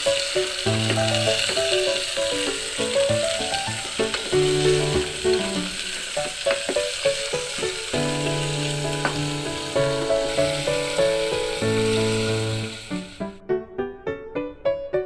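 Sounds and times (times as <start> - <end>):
food sizzling in hot oil: 0.0 - 13.3
background music with held notes: 0.0 - 15.0.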